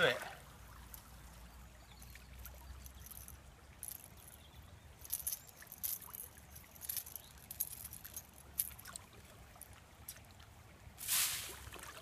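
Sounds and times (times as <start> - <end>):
river water running: 0.0 - 12.0
fish splashing and clicking: 0.7 - 10.6.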